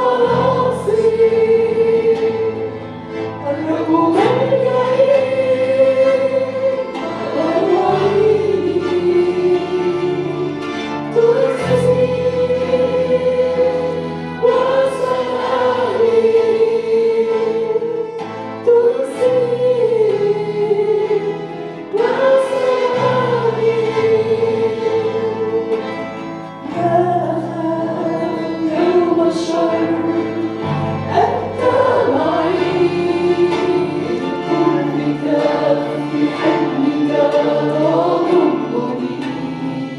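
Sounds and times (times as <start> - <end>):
group singing a hymn: 0.0 - 39.9
instrumental accompaniment with bass: 0.0 - 39.9.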